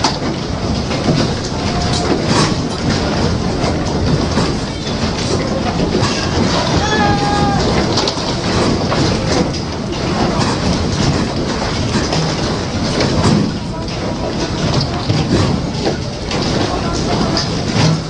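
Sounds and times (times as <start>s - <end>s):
earthquake rumble with rattling: 0.0s - 18.0s.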